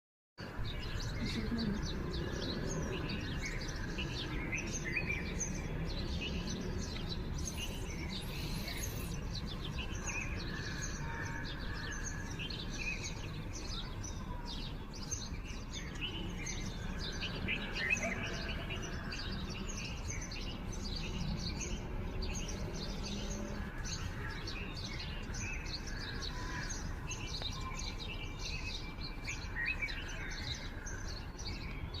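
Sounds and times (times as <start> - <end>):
birds chirping: 0.4 - 32.0.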